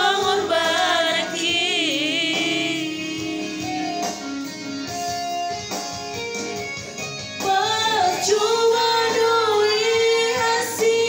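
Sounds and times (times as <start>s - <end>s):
keyboard melody in guitar voice: 0.0s - 11.0s.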